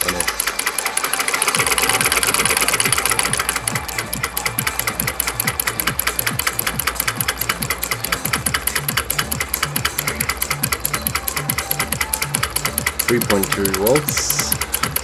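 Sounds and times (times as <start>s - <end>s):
solenoid engine clacking: 0.0s - 15.0s.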